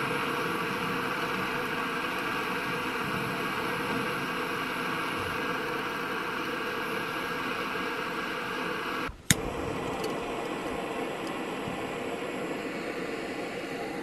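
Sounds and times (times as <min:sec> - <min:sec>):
torch lighter flame hissing: 0:00.0 - 0:14.0.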